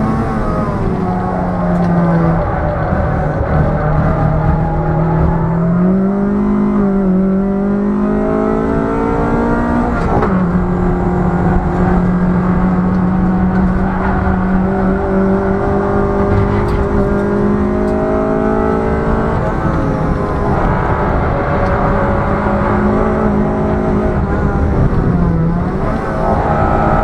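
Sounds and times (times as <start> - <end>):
car engine revving high: 0.0 - 27.0.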